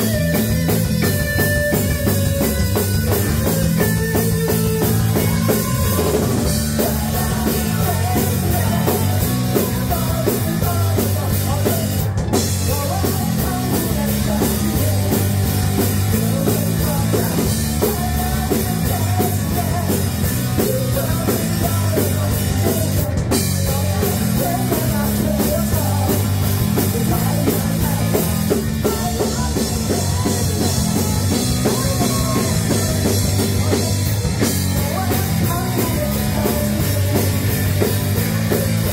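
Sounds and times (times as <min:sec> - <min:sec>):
driving drum kit: 0:00.0 - 0:38.9
live rock band playing: 0:00.0 - 0:38.9
person singing: 0:00.0 - 0:38.9.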